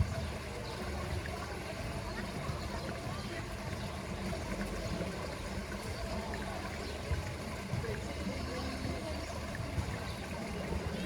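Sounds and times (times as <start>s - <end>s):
water trickling and lapping: 0.0s - 11.0s.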